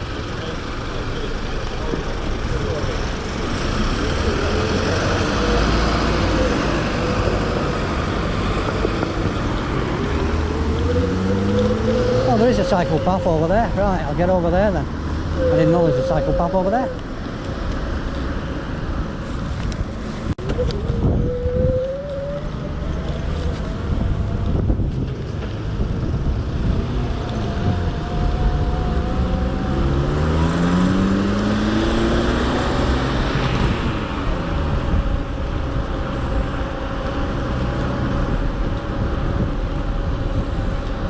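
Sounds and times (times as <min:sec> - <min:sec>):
road traffic passing: 0:00.0 - 0:41.0
wind rumble on microphone: 0:03.9 - 0:41.0.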